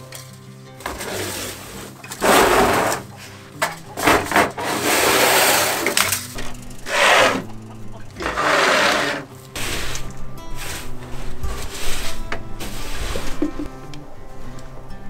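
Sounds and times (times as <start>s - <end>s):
rake scraping straw on wooden floor: 0.8s - 7.6s, 8.2s - 13.7s.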